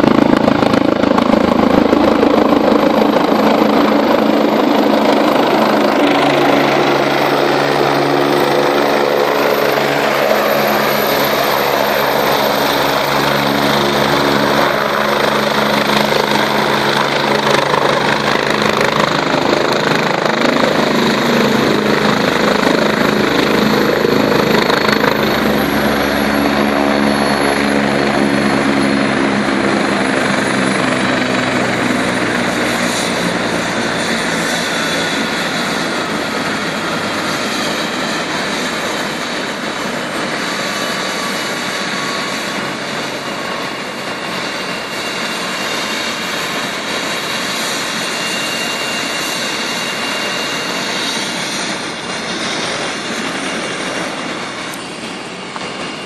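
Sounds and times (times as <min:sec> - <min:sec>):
helicopter rotor and turbine: 0:00.0 - 0:56.0
high turbine whine: 0:00.0 - 0:56.0.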